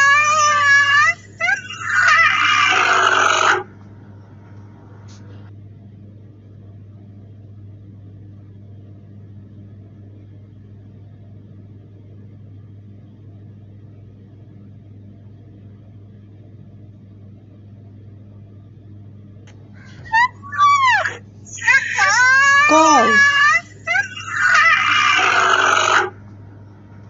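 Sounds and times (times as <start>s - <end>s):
low hum with faint hiss: 0.0s - 27.0s.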